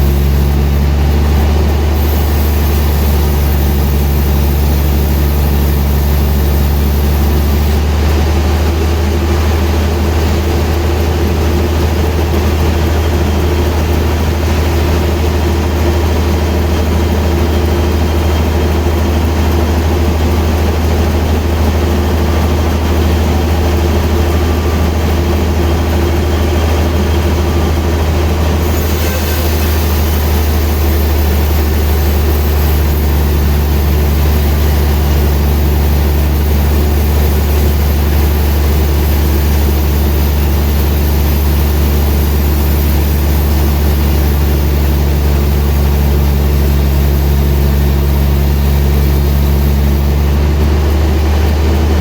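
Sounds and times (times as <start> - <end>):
sawmill machinery humming: 0.0 - 52.0.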